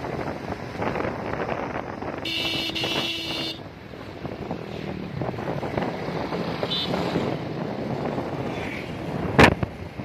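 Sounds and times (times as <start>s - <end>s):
road rumble: 0.0s - 10.0s
wind rushing over microphone: 0.0s - 10.0s.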